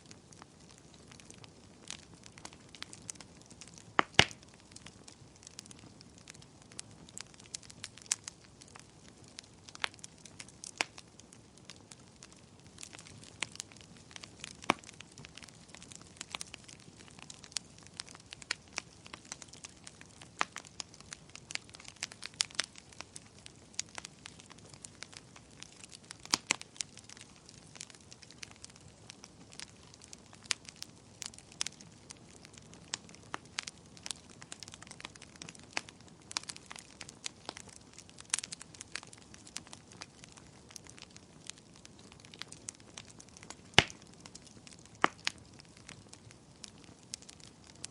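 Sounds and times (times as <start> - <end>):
campfire crackling: 0.0 - 47.9
faint steady hiss: 0.0 - 47.9.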